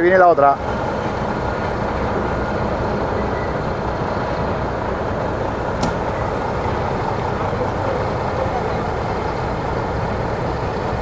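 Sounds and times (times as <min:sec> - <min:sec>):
diesel truck engines rumbling: 0:00.0 - 0:11.0.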